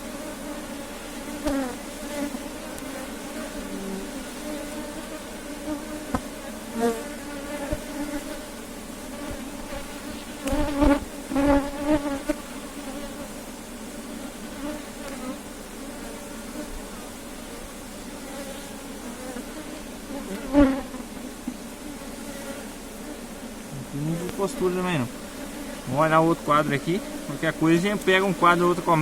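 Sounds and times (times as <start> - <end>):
bee buzzing close: 0.0 - 29.0
honey bees humming: 0.0 - 29.0.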